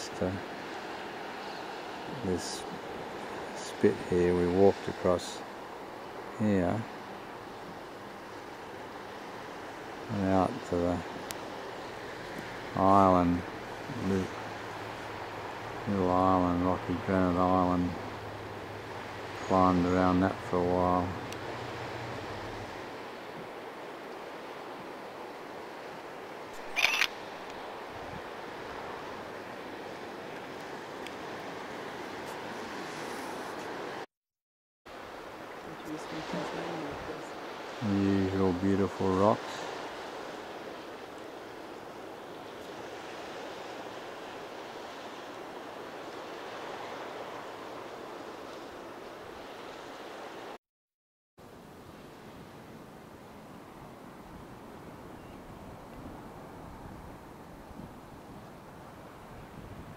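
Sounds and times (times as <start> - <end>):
sea on rocky shore: 0.0 - 34.1, 34.9 - 50.6, 51.4 - 59.9
wind: 0.0 - 34.1, 34.9 - 50.6, 51.4 - 59.9.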